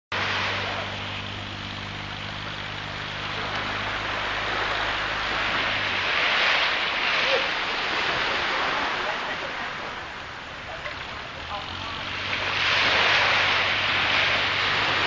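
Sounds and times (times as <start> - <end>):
low engine hum: 0.1 - 15.0
small waves washing onto beach: 0.1 - 15.0.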